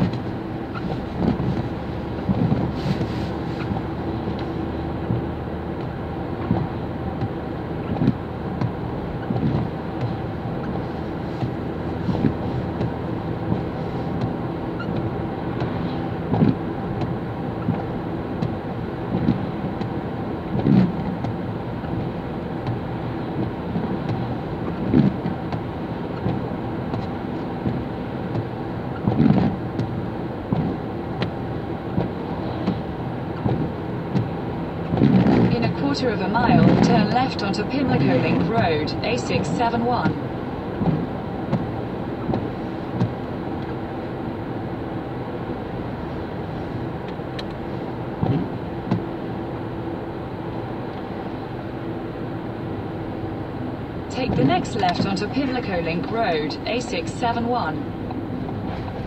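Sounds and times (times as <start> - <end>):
windscreen wiper sweeping: 0.0 - 56.6, 57.3 - 59.0
in-car road and engine noise: 0.0 - 59.0.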